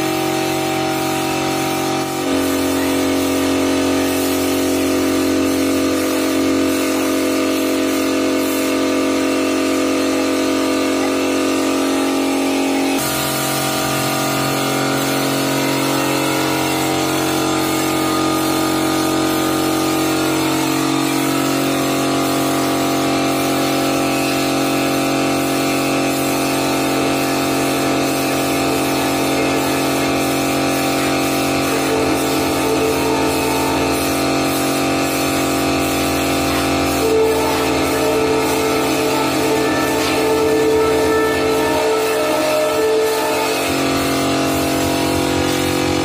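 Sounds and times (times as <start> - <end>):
air compressor humming: 0.0 - 46.0
spray gun hissing: 0.0 - 46.0.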